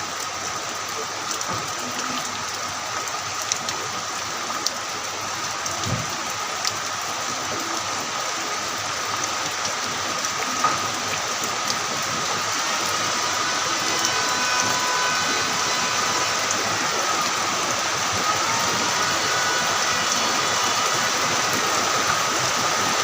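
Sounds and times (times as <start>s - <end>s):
heavy rain hissing: 0.0s - 23.0s
raindrops ticking on surfaces: 0.0s - 23.0s.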